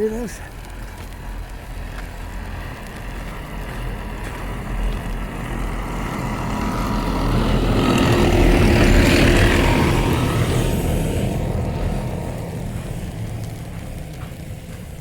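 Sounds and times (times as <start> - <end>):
vehicle approaching: 0.0 - 15.0.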